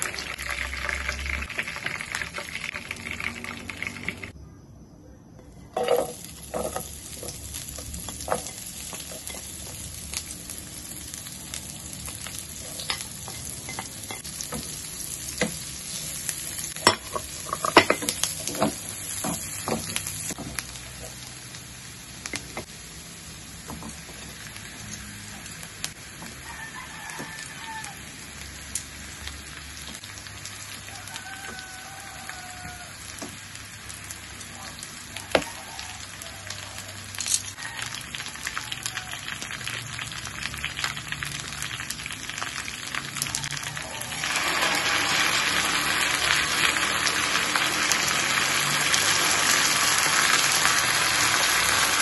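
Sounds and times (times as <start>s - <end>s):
onion and garlic sizzling in a pan: 0.0s - 4.4s, 5.5s - 52.0s.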